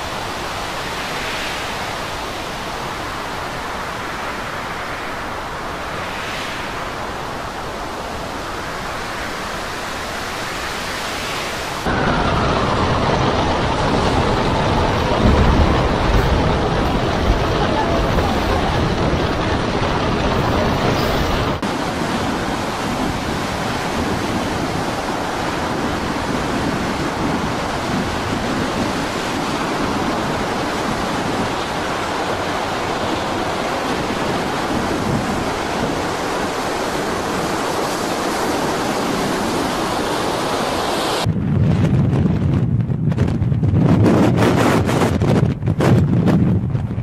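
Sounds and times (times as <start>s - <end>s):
wind and breaking waves: 0.0s - 47.0s
wind buffeting microphone: 0.0s - 47.0s.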